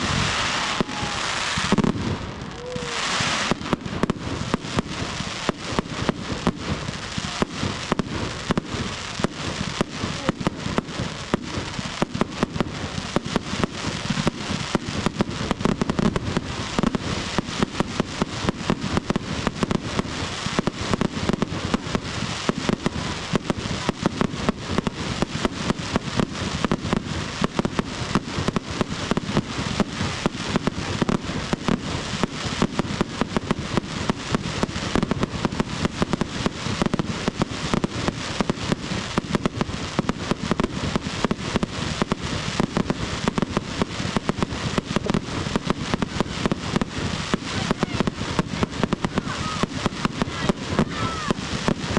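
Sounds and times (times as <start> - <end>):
fireworks banging and crackling: 0.0 - 51.9.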